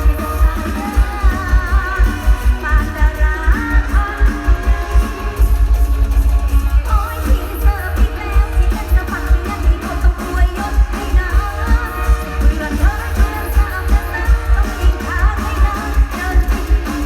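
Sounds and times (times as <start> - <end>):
heavy bass beat: 0.0 - 17.0
person singing: 0.0 - 17.0.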